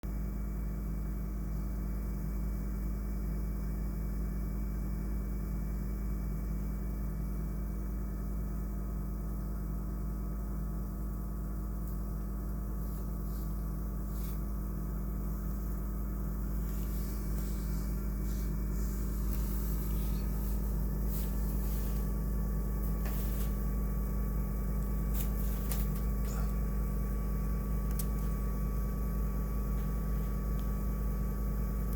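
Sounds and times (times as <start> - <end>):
dryer vent low hum: 0.0 - 31.9.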